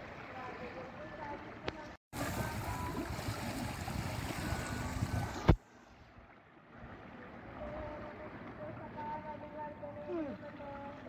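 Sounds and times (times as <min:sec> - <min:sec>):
wind and sea water rushing: 0:00.0 - 0:11.0.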